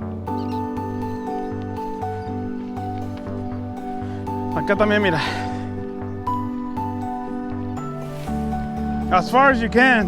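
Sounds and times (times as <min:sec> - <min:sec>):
synth background music: 0:00.0 - 0:10.0.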